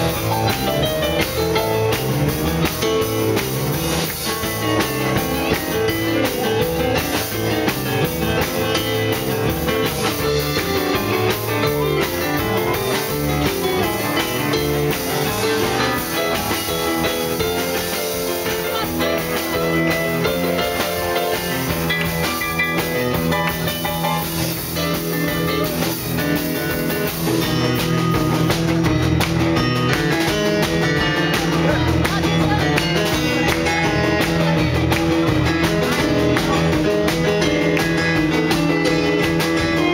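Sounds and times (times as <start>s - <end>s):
drum kit: 0.0s - 39.9s
electric guitar: 0.0s - 39.9s
electric keyboard: 0.0s - 39.9s.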